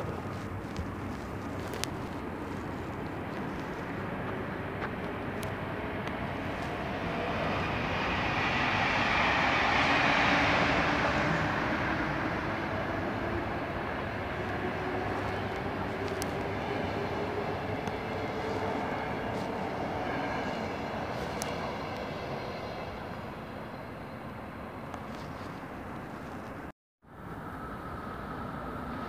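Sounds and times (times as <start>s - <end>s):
train wheels rumbling on rails: 0.0s - 26.7s.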